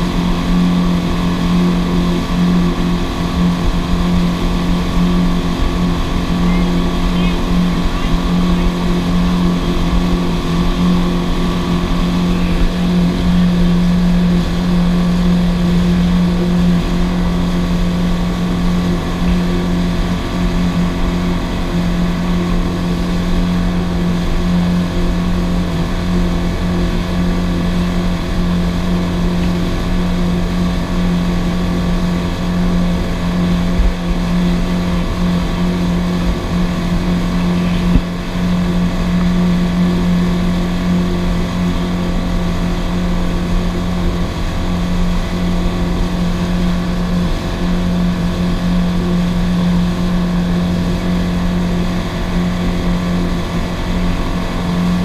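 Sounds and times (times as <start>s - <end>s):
outboard motor running: 0.0s - 55.0s
water rushing in wake: 0.0s - 55.0s.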